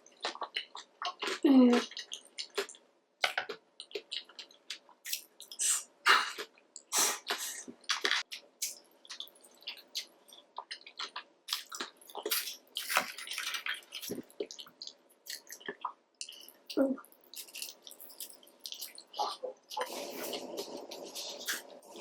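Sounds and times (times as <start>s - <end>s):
wet chewing and smacking: 0.0s - 5.6s, 6.2s - 22.0s.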